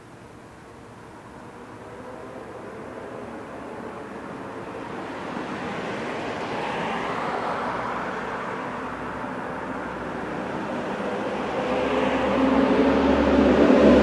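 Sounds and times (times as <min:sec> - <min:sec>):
motor vehicle passing by: 0:01.6 - 0:14.0.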